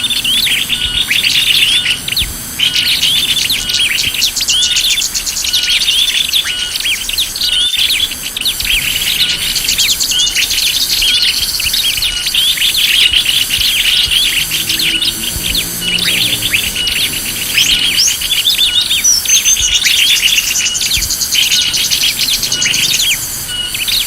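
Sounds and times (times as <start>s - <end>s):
high repeating buzz: 0.0s - 24.0s
songbirds chirping and twittering: 0.0s - 24.0s.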